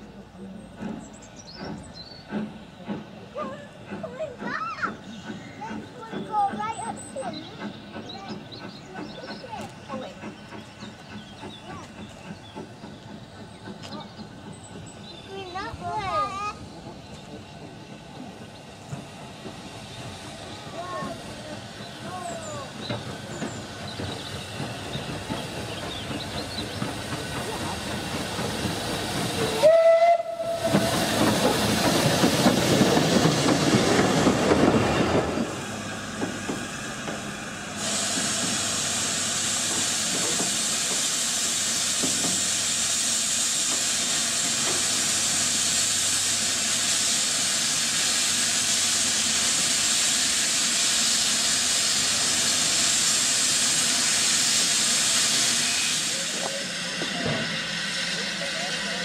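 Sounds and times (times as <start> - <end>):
steam locomotive running past: 0.0 - 59.0
loud hiss of escaping steam: 0.8 - 59.0.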